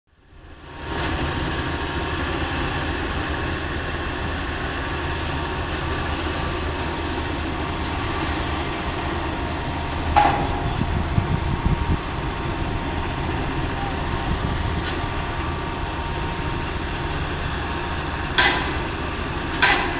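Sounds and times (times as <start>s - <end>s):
distant diesel engines rumbling: 0.2s - 19.9s.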